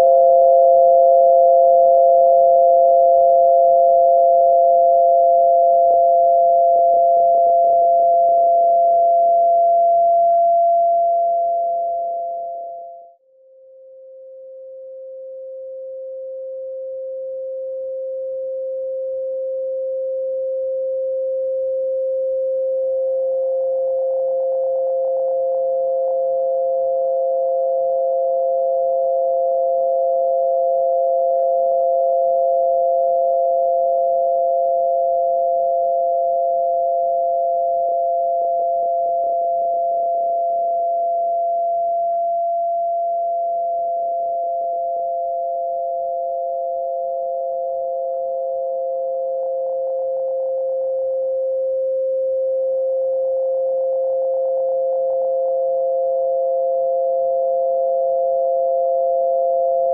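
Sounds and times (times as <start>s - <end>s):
steady sine tones: 0.0s - 59.9s.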